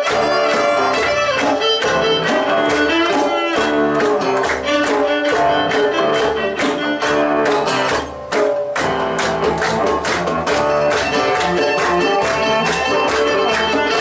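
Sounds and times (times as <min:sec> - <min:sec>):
fiddle: 0:00.0 - 0:07.9, 0:10.6 - 0:14.0
cello: 0:00.0 - 0:08.0, 0:09.8 - 0:14.0
djembe: 0:00.0 - 0:14.0
drum kit: 0:00.0 - 0:14.0
strummed acoustic guitar: 0:00.0 - 0:14.0.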